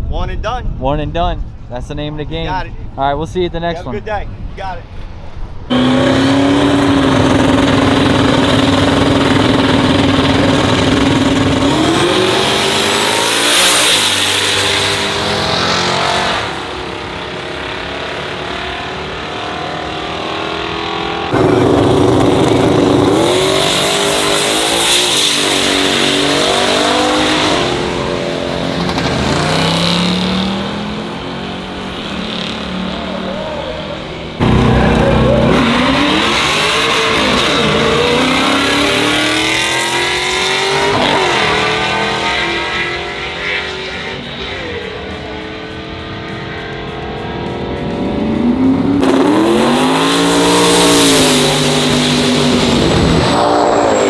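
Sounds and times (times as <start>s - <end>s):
cars passing by: 1.6s - 54.0s
race car engines revving: 3.6s - 54.0s.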